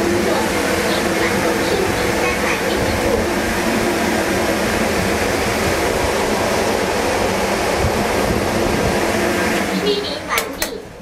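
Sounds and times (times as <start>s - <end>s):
air jets rushing: 0.0s - 11.0s.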